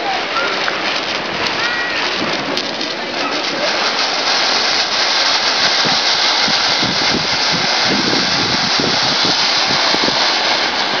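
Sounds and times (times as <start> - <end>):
firework fountain hissing: 0.0 - 11.0.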